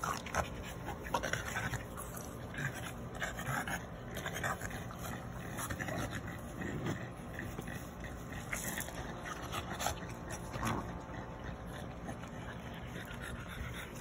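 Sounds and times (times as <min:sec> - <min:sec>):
dogs breathing and scuffling: 0:00.0 - 0:14.0.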